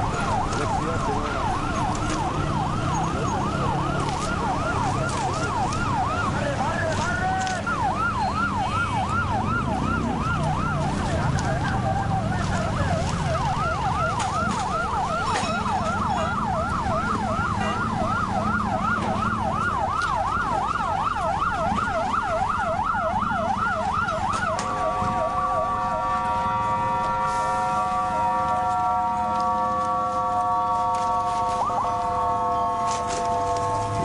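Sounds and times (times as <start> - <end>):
engine and traffic rumble: 0.0 - 34.0
siren yelping: 0.0 - 34.0
steady horn-like siren tone: 0.0 - 34.0.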